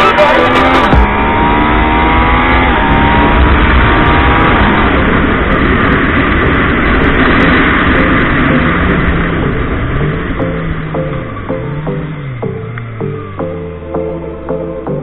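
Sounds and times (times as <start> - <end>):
motorcycle engine at full throttle: 0.0 - 15.0
wind noise rushing: 0.8 - 13.8.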